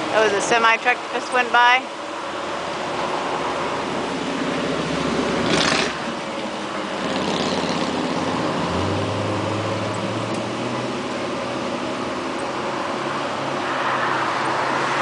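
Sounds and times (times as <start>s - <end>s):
cooling fans humming: 0.0s - 15.0s
low engine drone: 0.0s - 15.0s
road traffic: 0.0s - 15.0s.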